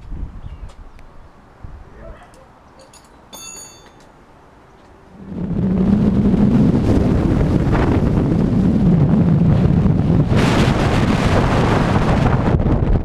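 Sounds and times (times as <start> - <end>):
wind buffeting microphone: 0.0 - 2.7, 4.4 - 13.0
road noise: 0.0 - 12.6.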